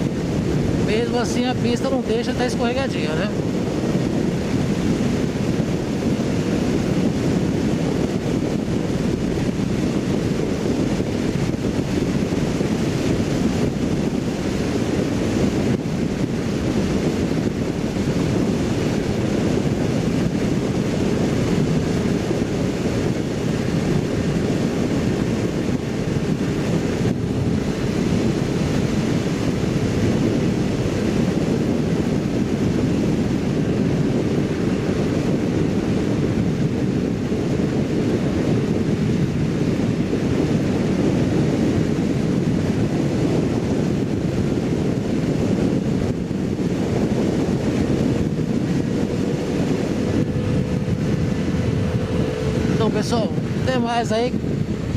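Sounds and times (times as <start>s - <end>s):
wind rush on microphone: 0.0s - 54.9s
motorcycle engine droning: 3.3s - 54.9s.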